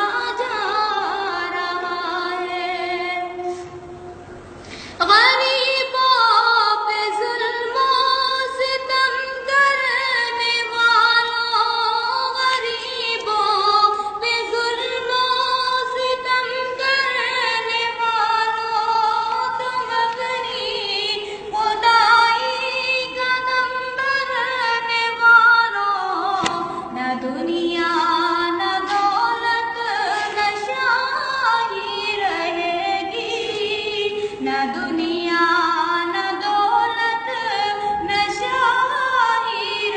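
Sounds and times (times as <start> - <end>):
woman singing devotional song: 0.0 - 4.1, 4.8 - 39.9.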